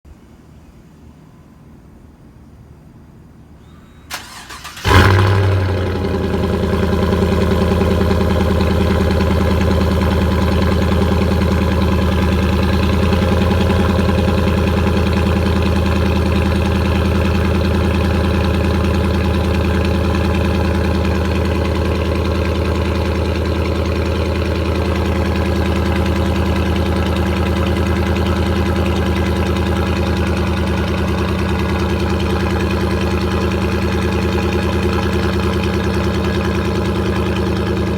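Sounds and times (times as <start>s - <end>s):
engine starting and idling: 3.6s - 37.9s
engine cranking: 4.1s - 37.9s.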